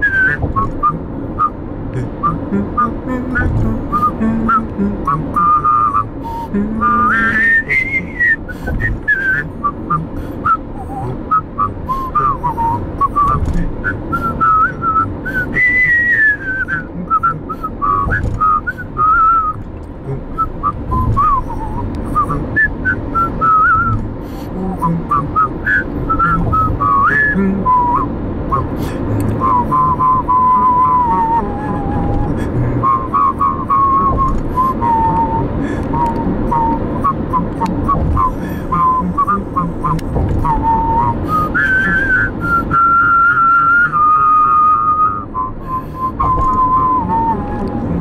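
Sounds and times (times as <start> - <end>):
car road noise rumble: 0.0 - 48.0
person whistling a melody: 0.0 - 48.0.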